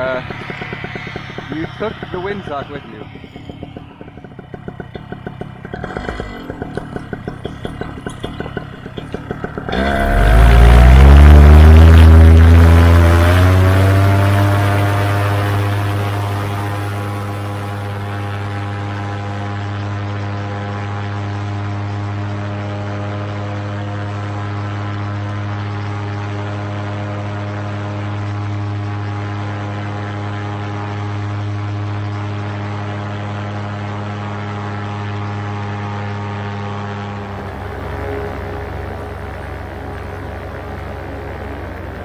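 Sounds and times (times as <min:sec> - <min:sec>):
paramotor engine humming: 0:00.0 - 0:22.4, 0:27.8 - 0:42.0.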